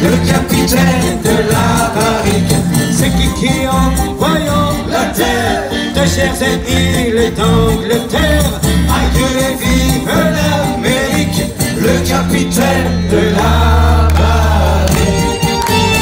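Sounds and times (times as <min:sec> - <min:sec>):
accordion: 0:00.0 - 0:16.0
acoustic guitar: 0:00.0 - 0:16.0.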